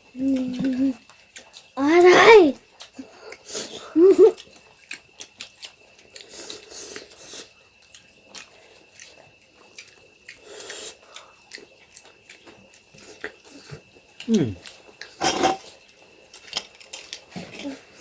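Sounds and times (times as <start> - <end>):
wet chewing clicks and smacks: 0.2 - 1.8, 2.6 - 17.3.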